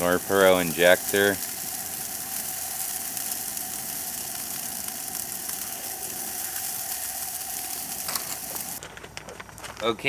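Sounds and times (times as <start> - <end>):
mechanical hum and hiss: 0.0 - 8.9
constant mid-pitched tone: 0.0 - 10.0.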